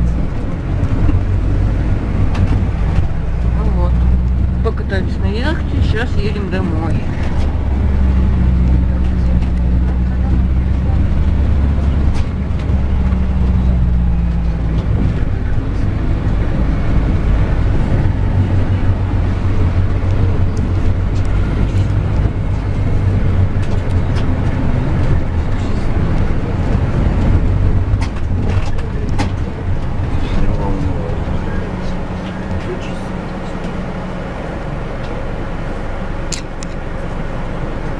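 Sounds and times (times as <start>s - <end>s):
bus engine drone: 0.0s - 37.9s.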